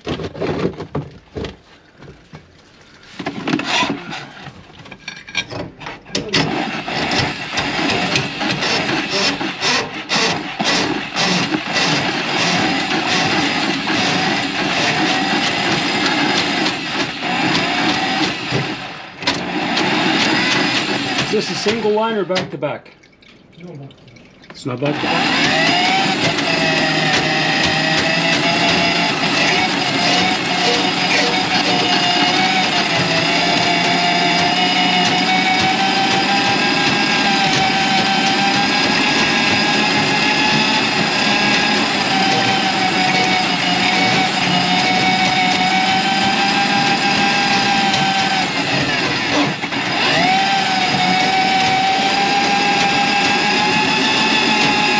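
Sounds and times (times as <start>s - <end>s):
drain-cleaning machine motor running: 6.1s - 22.5s, 24.6s - 54.9s.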